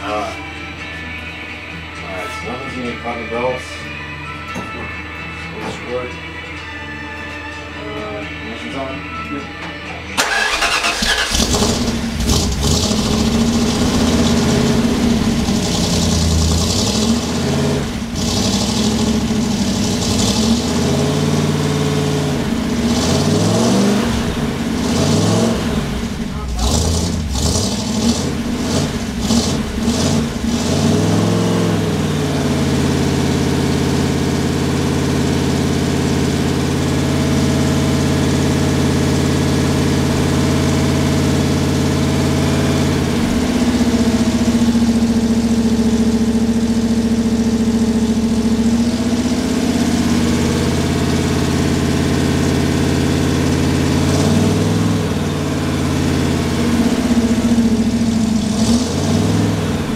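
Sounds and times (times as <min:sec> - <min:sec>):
race car engine revving and idling: 0:10.2 - 0:59.9.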